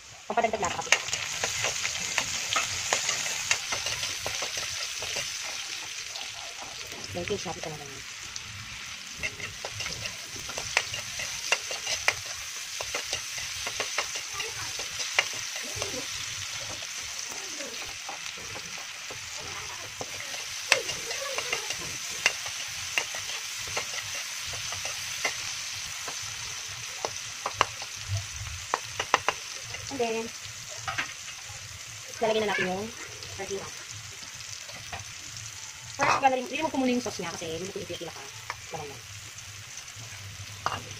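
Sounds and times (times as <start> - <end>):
vegetables sizzling in oil: 0.0 - 40.9.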